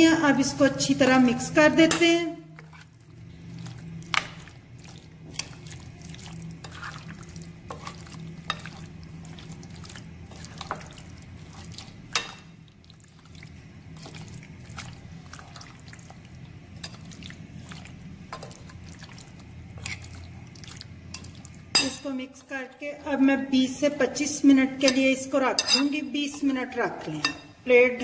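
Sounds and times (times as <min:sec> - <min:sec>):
wet squelching of marinade: 0:01.9 - 0:27.4.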